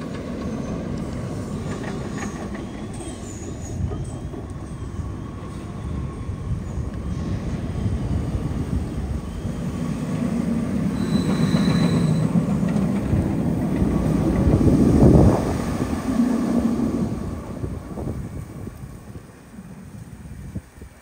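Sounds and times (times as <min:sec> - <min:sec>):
roller coaster train rumbling: 0:00.0 - 0:21.0.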